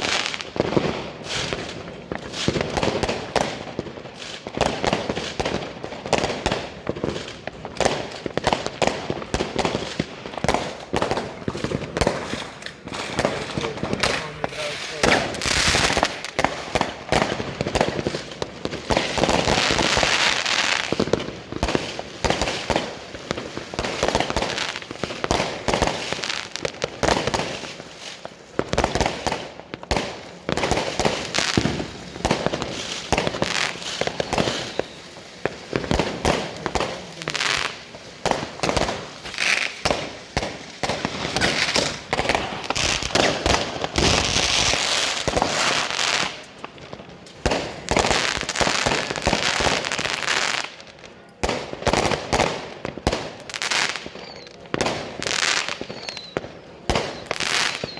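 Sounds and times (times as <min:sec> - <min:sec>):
fireworks and firecrackers banging: 0:00.0 - 0:57.9.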